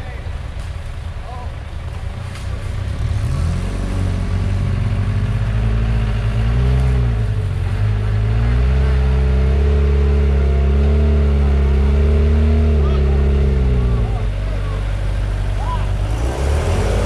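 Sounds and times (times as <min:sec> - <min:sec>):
vehicle engine revving: 0:02.3 - 0:17.0.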